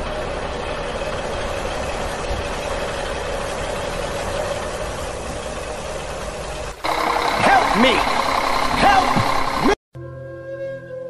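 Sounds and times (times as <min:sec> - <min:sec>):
truck engine idling: 0:00.0 - 0:09.8.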